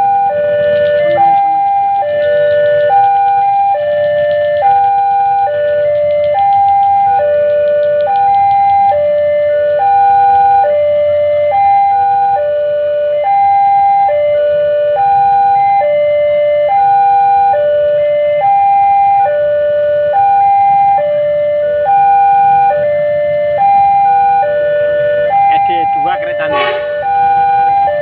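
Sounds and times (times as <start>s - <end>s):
two-tone railway warning alarm: 0.0s - 28.0s.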